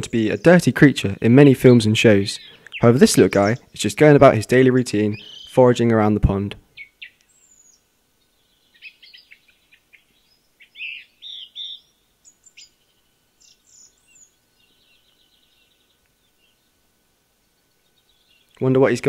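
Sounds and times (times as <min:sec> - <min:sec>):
faint rapid bird trill: 0:00.0 - 0:19.0
songbirds chirping: 0:00.0 - 0:19.0.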